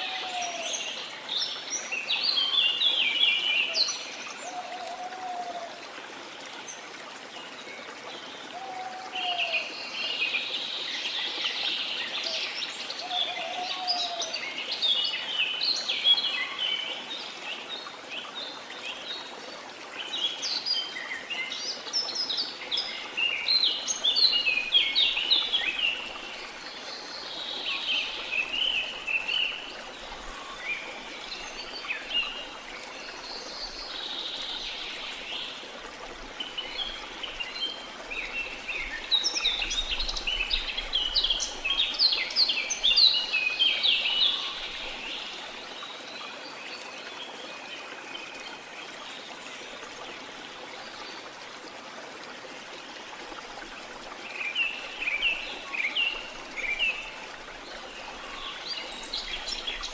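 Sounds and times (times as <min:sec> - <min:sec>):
falling water rushing: 0:00.0 - 0:59.9.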